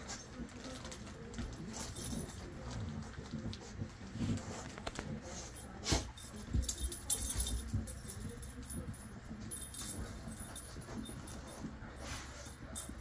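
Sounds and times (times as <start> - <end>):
collar tags jingling: 0.0 - 3.5, 5.3 - 13.0
dog rummaging through toys: 0.0 - 13.0.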